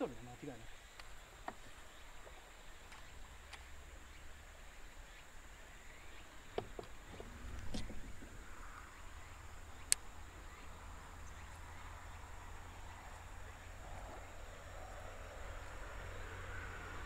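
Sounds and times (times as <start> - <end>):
insects chirring: 0.0 - 17.0
low steady rumble: 0.2 - 17.0.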